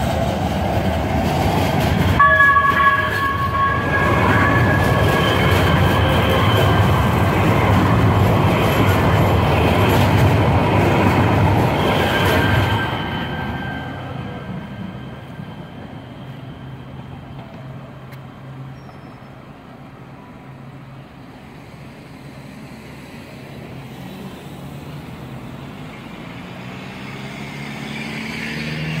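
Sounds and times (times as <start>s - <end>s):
light-rail train running on track: 0.0s - 29.0s.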